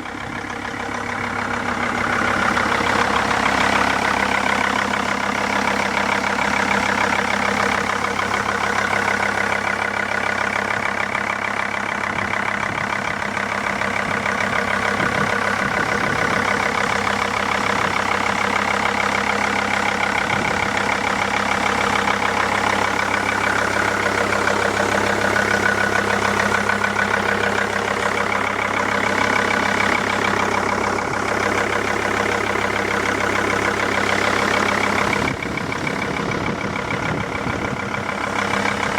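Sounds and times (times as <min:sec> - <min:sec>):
car engine idling: 0:00.0 - 0:38.9
rapid engine knocking tick: 0:00.0 - 0:38.9.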